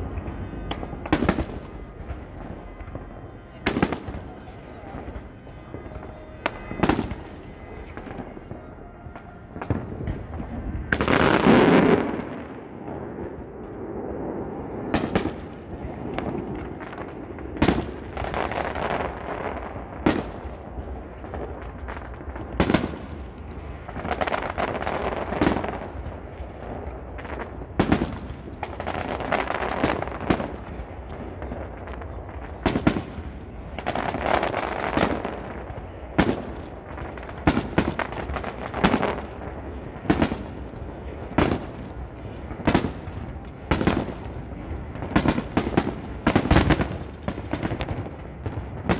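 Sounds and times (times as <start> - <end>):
fireworks crackling: 0.0 - 48.9.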